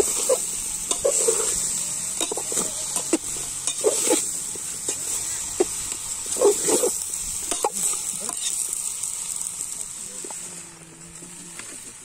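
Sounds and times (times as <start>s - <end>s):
food sizzling in metal pot: 0.0s - 12.0s.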